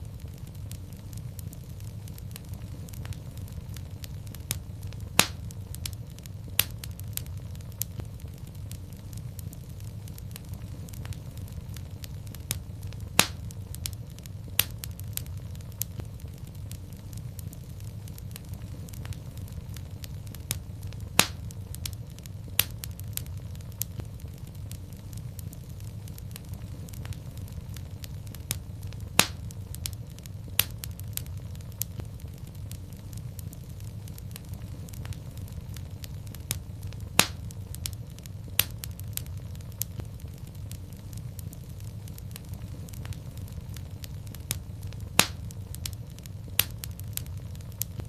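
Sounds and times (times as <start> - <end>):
fire flames rumbling: 0.0 - 48.0
wood fire crackling and popping: 0.0 - 48.0.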